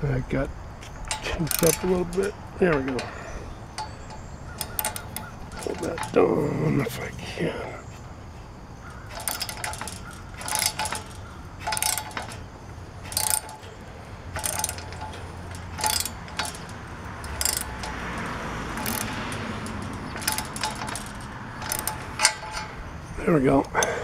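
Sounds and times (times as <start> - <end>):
ratchet wrench clicks: 0.9 - 6.9, 8.8 - 24.0.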